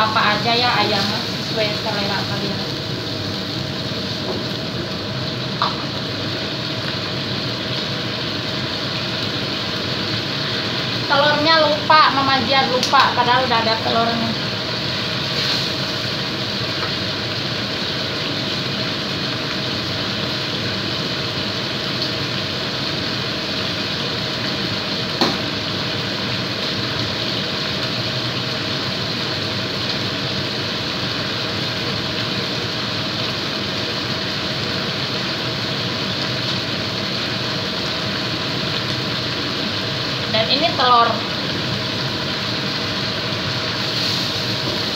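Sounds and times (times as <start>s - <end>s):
sauce bubbling and sizzling: 0.0s - 44.9s.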